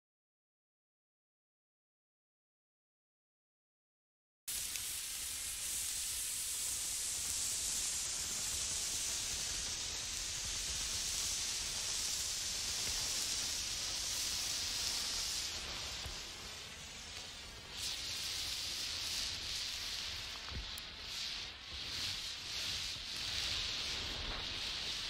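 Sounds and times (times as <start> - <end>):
steady high hiss: 4.5 - 25.0.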